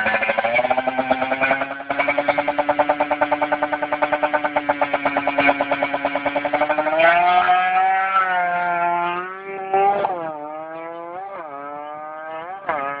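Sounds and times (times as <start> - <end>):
motorcycle accelerating hard: 0.0 - 13.0.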